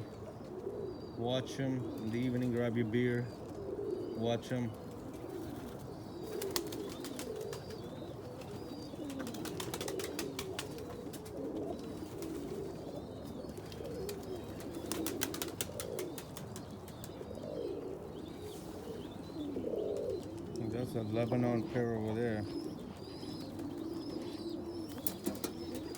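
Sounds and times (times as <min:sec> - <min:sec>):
pigeons cooing: 0:00.0 - 0:25.9.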